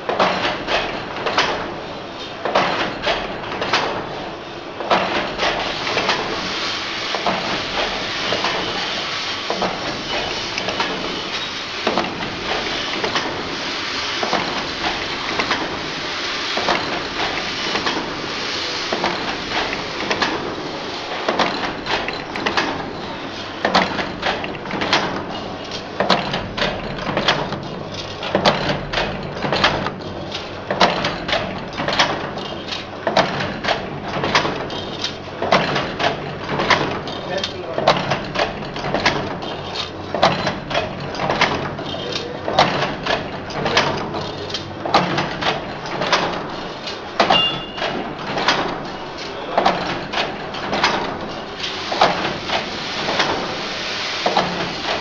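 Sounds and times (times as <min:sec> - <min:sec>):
rapid irregular knocks and clicks: 0:00.0 - 0:06.5, 0:07.1 - 0:55.0
wire-forming machine clatter: 0:00.0 - 0:55.0.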